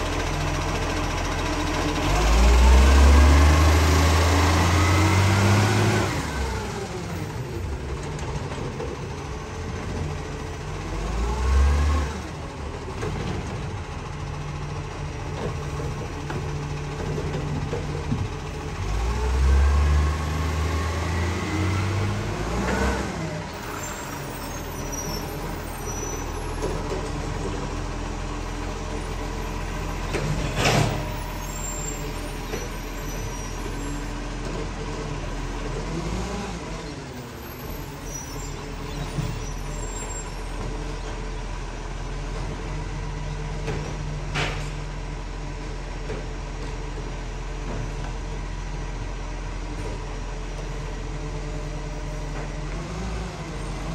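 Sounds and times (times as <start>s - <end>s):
garbage truck diesel engine: 0.0s - 53.9s.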